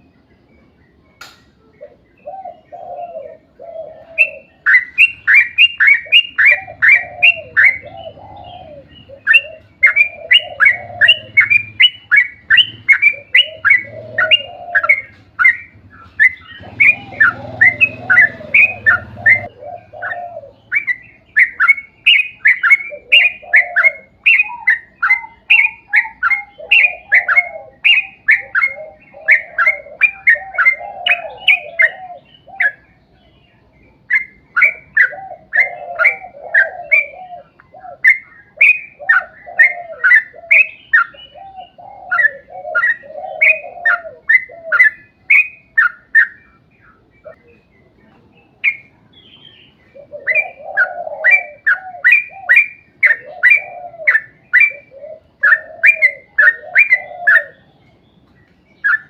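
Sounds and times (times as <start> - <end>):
bulbul singing rapid chirps: 1.2 - 59.0.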